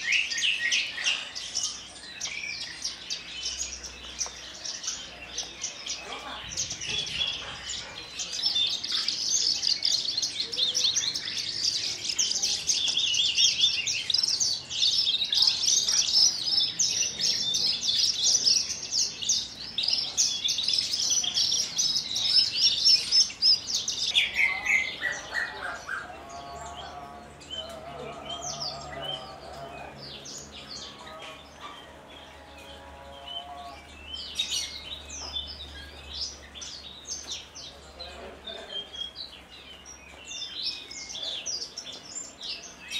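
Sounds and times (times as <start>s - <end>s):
bird chirping song: 0.0s - 42.9s.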